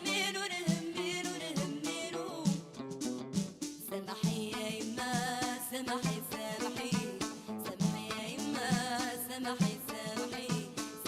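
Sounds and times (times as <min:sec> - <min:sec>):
song with plucked guitar: 0:00.0 - 0:11.0.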